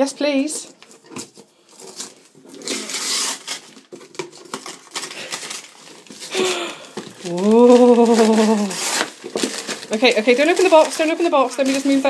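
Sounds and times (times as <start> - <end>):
wrapping paper tearing: 1.8 - 12.0.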